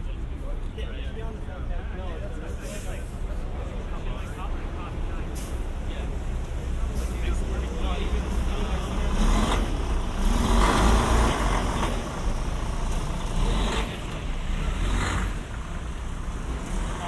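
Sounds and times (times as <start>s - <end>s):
bus diesel engine rumbling: 0.0s - 17.0s
street traffic: 0.0s - 17.0s.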